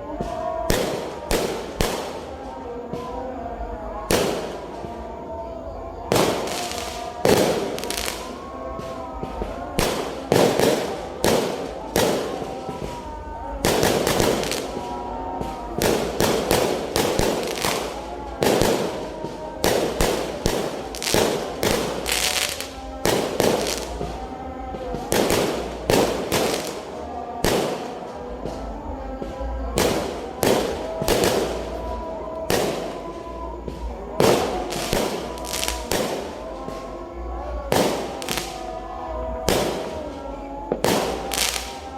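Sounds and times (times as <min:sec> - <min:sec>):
fireworks crackling: 0:00.0 - 0:41.9
fireworks bangs: 0:00.1 - 0:41.9.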